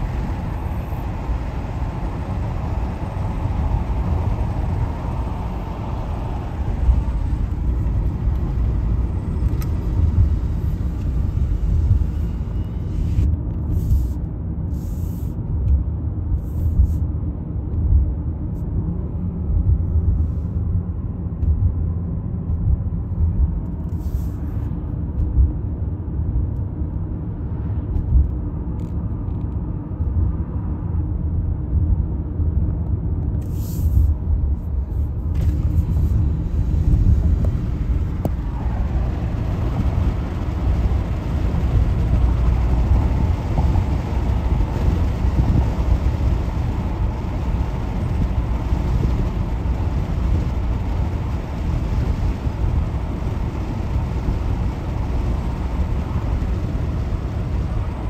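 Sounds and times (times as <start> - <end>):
car tyres and engine rumbling: 0.0 - 58.0.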